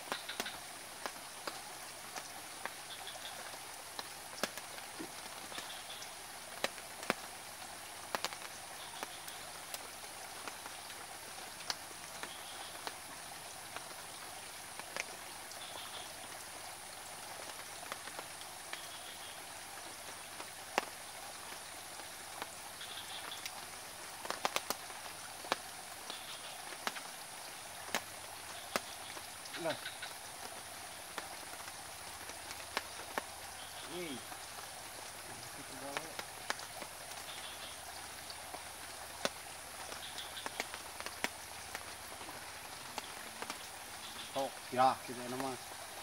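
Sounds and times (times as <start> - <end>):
steady outdoor hiss: 0.0 - 46.0.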